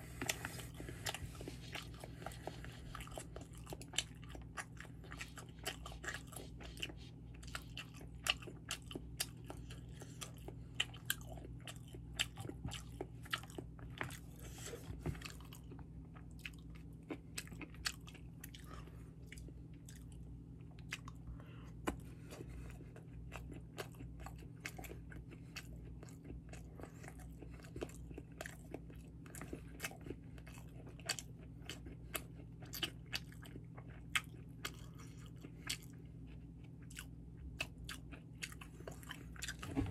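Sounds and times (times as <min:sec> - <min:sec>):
close chewing and mouth smacks: 0:00.0 - 0:39.9.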